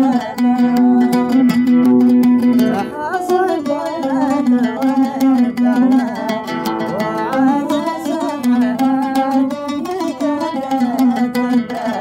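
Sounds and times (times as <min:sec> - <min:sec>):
oud melody: 0:00.0 - 0:11.8.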